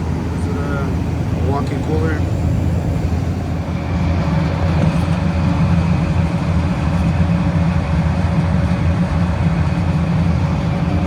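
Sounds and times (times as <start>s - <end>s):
refrigeration machine hum: 0.0s - 11.0s.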